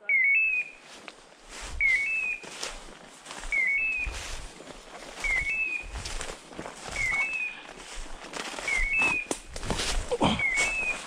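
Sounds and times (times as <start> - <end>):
footsteps through dry leaves: 0.7 - 11.0.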